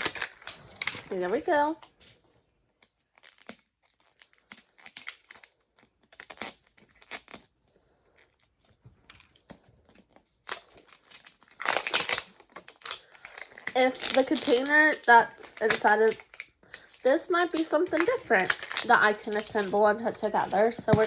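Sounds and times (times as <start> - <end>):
plastic packaging crinkling: 0.0 - 1.9, 3.1 - 7.5, 8.2 - 21.0.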